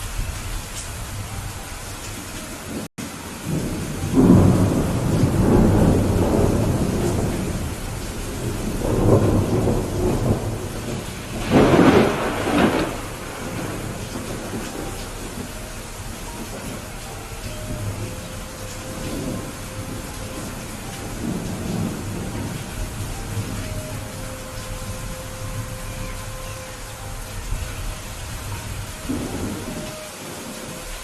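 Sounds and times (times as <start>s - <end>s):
steady rain: 0.0s - 31.0s
rolling thunder: 2.7s - 31.0s.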